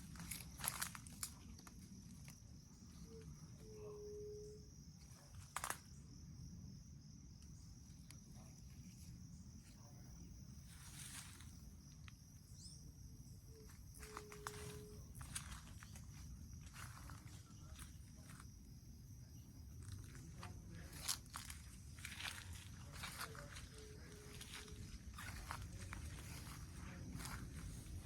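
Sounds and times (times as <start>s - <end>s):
insect drone: 0.0s - 28.0s.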